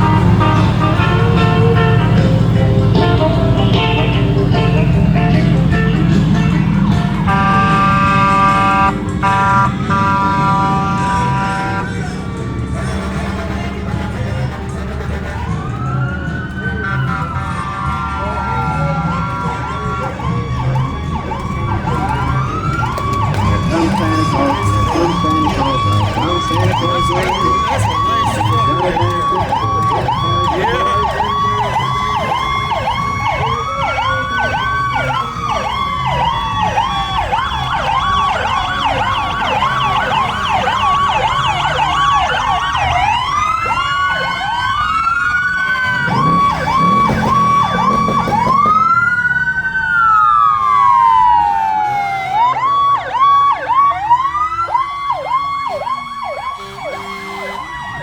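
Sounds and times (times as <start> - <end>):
fire truck sirens: 0.0 - 58.0
low engine rumble: 0.0 - 58.0.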